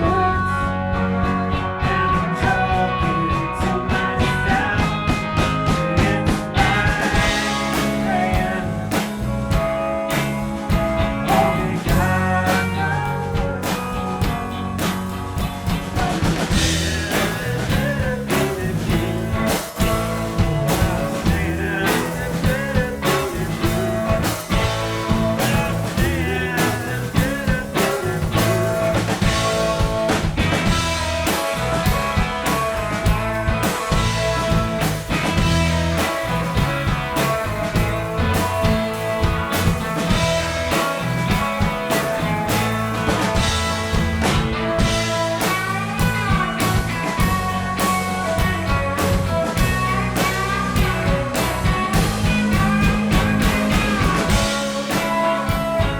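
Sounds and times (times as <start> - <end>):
bass: 0.0 - 55.9
drum kit: 0.0 - 55.9
guitars: 0.0 - 55.9.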